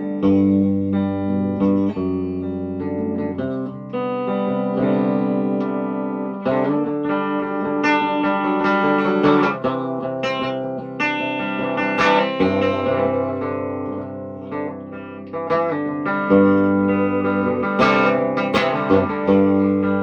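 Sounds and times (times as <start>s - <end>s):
electric guitar chords ringing: 0.0s - 20.0s.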